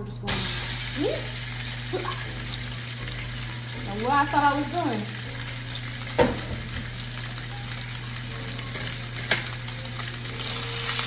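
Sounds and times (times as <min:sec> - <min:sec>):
chicken sizzling in hot oil: 0:00.2 - 0:11.0.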